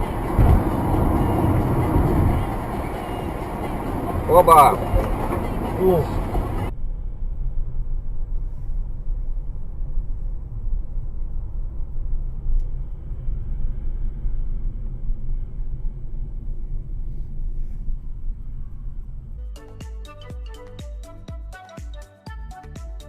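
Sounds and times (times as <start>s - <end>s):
vehicle engine and road noise: 0.0s - 19.8s.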